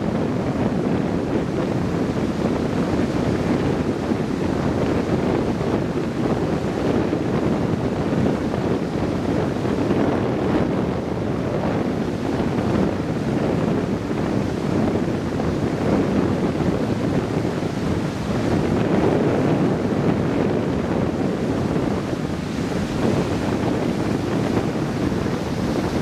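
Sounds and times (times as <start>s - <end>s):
storm surf breaking: 0.0s - 26.0s
wind buffeting microphone: 0.0s - 26.0s.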